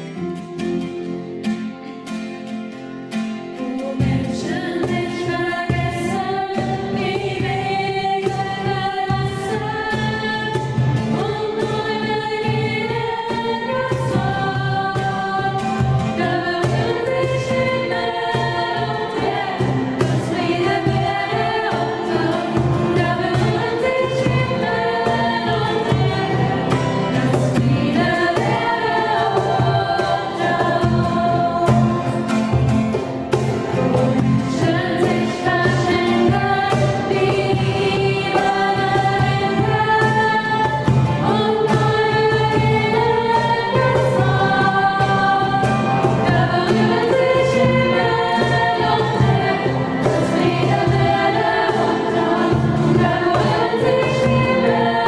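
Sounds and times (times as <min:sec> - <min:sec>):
cajon drum beat: 0:03.6 - 0:55.0
young voices singing: 0:03.9 - 0:32.7, 0:33.3 - 0:55.0.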